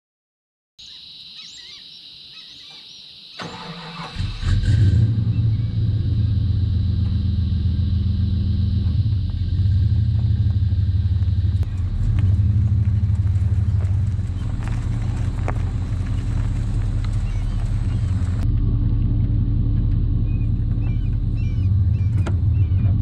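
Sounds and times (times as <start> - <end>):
four-stroke engine starting and running: 3.4 - 23.0.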